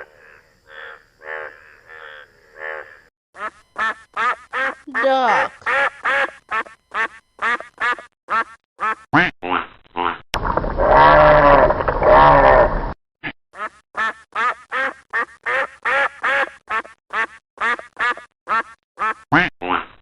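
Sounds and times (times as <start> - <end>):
ducks quacking: 0.0 - 10.2, 13.6 - 20.0.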